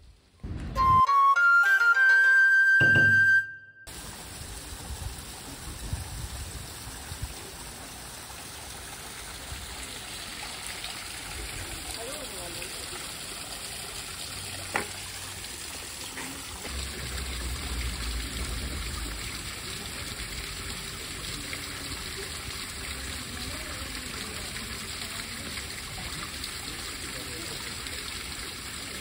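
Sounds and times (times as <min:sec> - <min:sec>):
water trickling into pond: 0:03.9 - 0:29.0.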